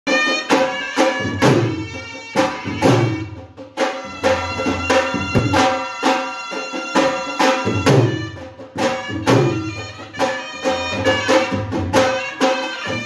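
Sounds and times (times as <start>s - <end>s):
barrel drums beaten with sticks: 0.1s - 13.0s
double-reed pipe melody: 0.1s - 13.0s.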